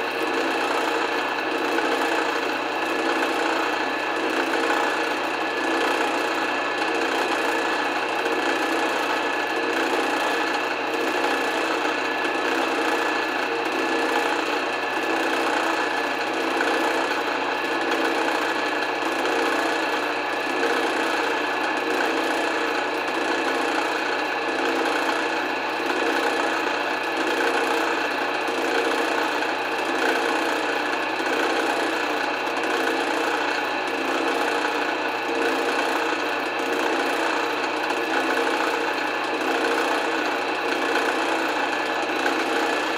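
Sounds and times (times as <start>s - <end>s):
drill press motor running: 0.0s - 42.9s.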